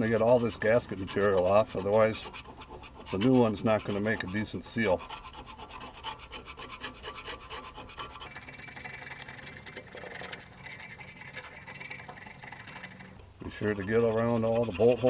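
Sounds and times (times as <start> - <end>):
knife scraping metal: 0.0 - 15.0.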